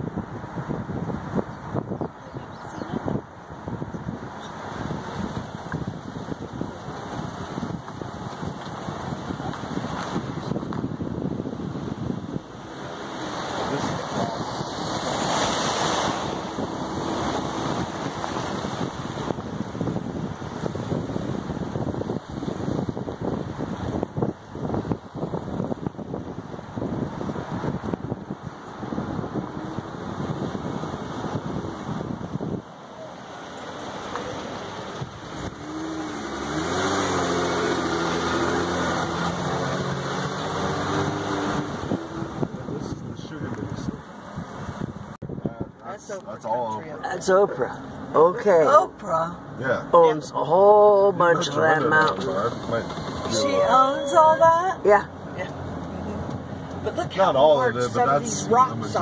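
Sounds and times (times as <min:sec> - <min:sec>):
wind buffeting microphone: 0:00.0 - 0:46.3, 0:52.0 - 0:57.2
road noise: 0:00.0 - 0:59.0
waves breaking over rocks: 0:03.0 - 0:45.2, 0:49.7 - 0:55.8.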